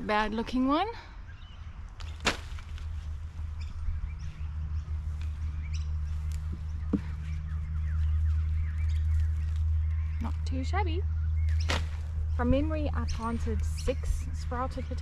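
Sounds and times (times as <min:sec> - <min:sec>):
birds chirping faintly: 0:00.0 - 0:15.0
steady low rumble: 0:00.0 - 0:15.0.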